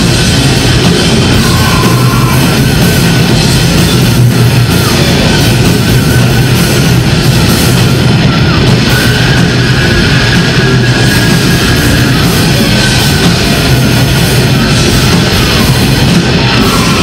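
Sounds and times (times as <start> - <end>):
distorted electric guitars: 0.0 - 17.0
drum kit: 0.0 - 17.0.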